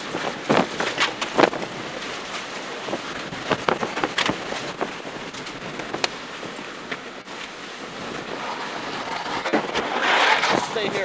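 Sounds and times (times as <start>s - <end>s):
wind and rain battering car: 0.0s - 11.0s.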